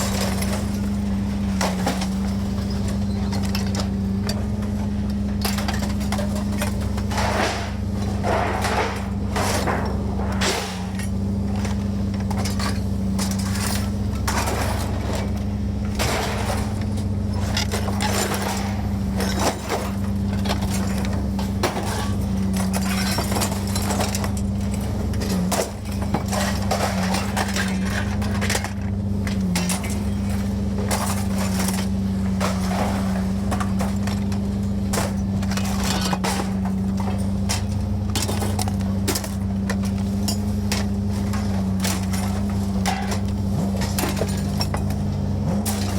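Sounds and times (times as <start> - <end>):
scrap metal clanking: 5.3 - 45.9.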